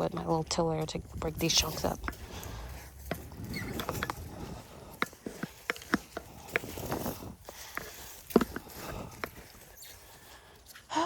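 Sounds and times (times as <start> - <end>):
hand tiller chopping soil: 0.0 - 10.3.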